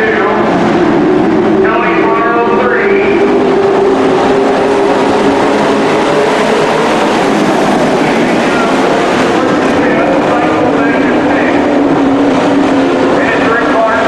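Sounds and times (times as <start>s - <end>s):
racing truck engines roaring: 0.0s - 14.0s.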